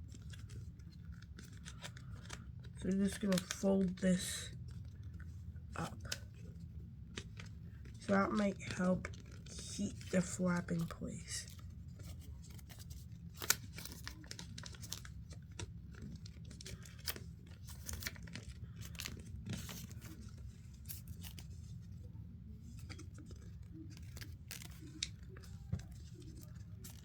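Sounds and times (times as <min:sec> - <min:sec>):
low steady hum: 0:00.0 - 0:27.0
paper crinkling as folded: 0:00.0 - 0:27.0.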